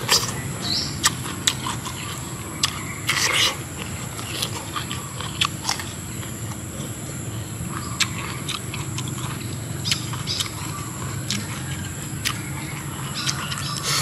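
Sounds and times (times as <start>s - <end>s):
person chewing: 0.0s - 7.1s, 7.7s - 14.0s.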